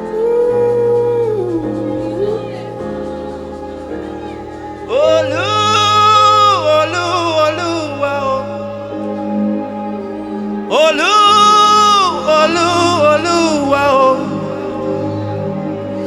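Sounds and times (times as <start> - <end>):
person singing wordless melody: 0.0 - 16.0
sustained worship chords: 0.0 - 16.0.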